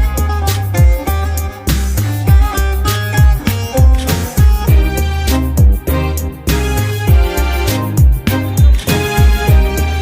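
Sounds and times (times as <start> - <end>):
sustained pitched notes: 0.0 - 10.0
bass drum hits: 0.8 - 9.9.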